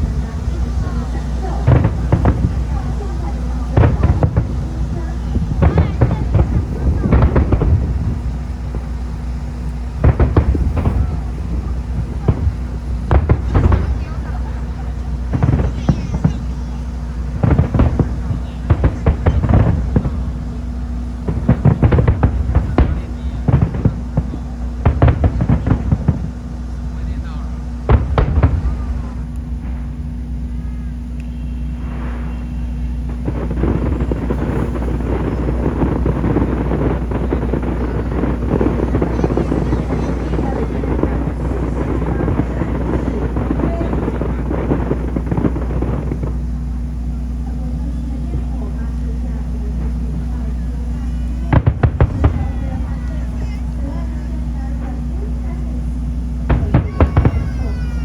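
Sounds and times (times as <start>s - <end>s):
fireworks bursting: 0.0s - 58.0s
sharp fireworks bangs: 0.0s - 58.0s
steady low rumble: 0.0s - 58.0s.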